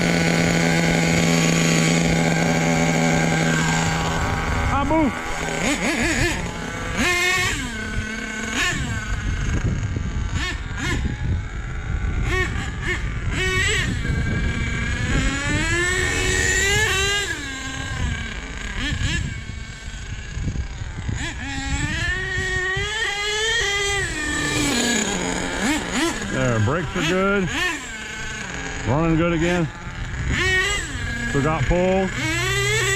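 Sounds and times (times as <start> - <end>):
small nitro engine revving: 0.0 - 32.9.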